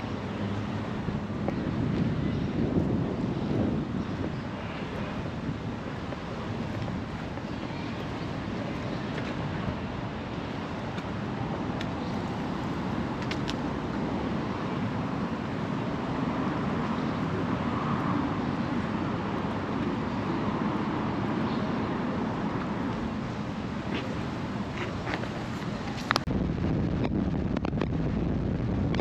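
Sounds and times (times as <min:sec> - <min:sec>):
road noise: 0:00.0 - 0:29.0
wind noise: 0:00.0 - 0:29.0.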